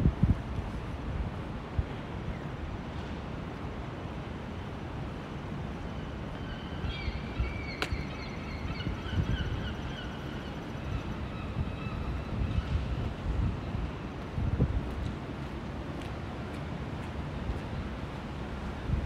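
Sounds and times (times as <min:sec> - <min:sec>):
city background hum: 0:00.0 - 0:19.0.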